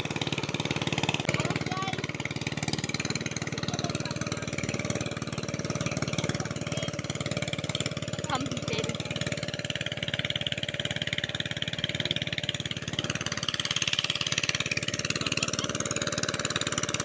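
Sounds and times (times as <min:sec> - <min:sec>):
hand tractor engine running: 0:00.0 - 0:17.0.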